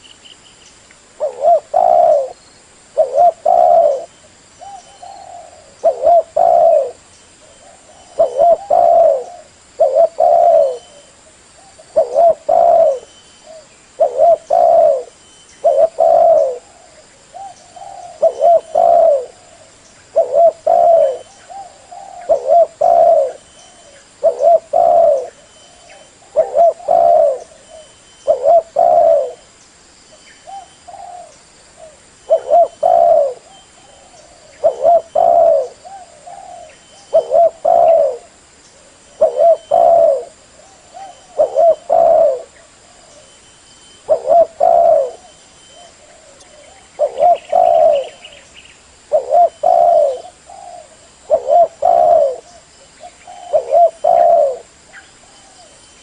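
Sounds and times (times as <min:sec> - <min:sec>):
dove cooing: 0:01.2 - 0:02.4, 0:03.0 - 0:29.5, 0:30.4 - 0:43.4, 0:44.0 - 0:56.0.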